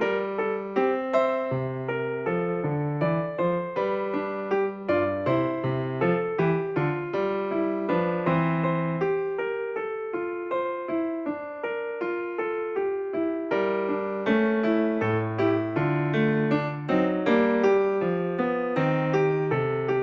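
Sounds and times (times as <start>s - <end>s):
keyboard melody: 0.0s - 20.0s.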